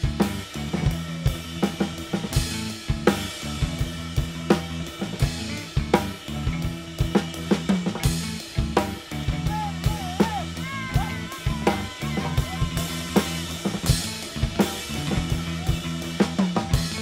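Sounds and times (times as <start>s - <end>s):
bass: 0.0s - 17.0s
bending lead melody: 0.0s - 17.0s
drum kit beat: 0.0s - 17.0s.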